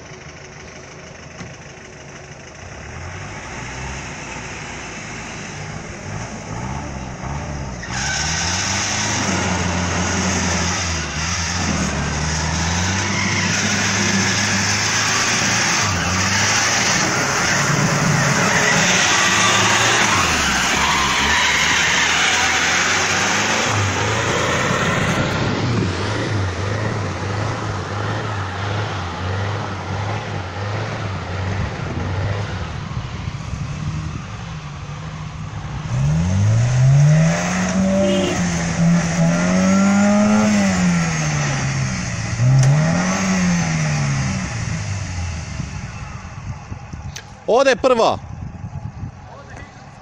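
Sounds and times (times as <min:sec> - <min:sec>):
off-road engines revving: 0:02.6 - 0:48.2.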